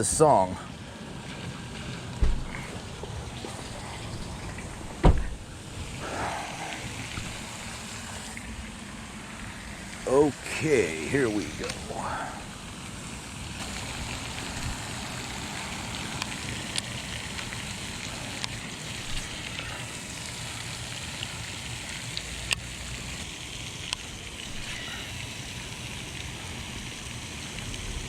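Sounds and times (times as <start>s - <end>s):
hissing outdoor background: 0.0s - 28.0s.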